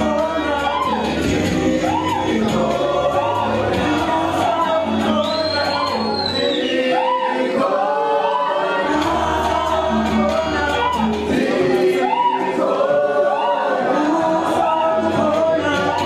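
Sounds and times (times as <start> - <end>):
voices singing in harmony: 0.0 - 16.0.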